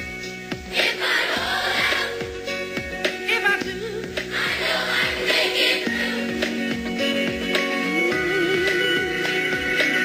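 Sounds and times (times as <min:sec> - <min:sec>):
steady drum beat: 0:00.0 - 0:10.0
pop song with sung vocals: 0:00.6 - 0:10.0.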